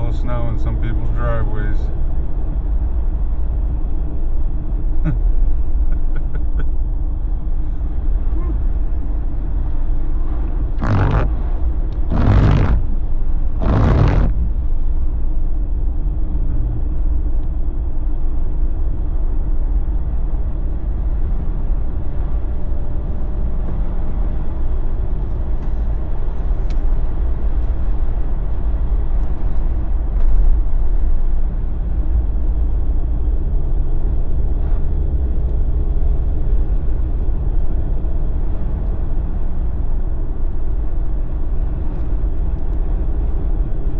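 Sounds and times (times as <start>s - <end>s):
car engine and tyre drone: 0.0s - 43.9s.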